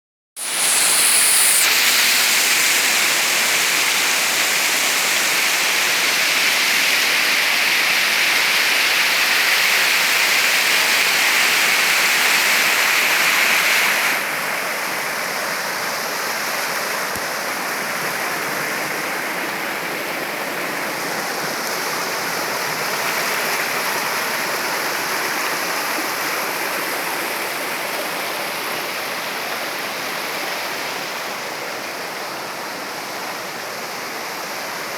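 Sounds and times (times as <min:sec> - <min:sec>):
waterfall rushing: 0:00.4 - 0:28.4.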